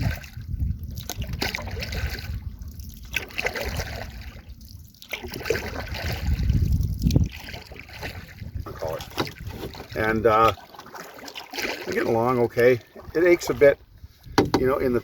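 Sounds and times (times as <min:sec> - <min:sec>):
paddle swishing water: 0:00.0 - 0:15.0.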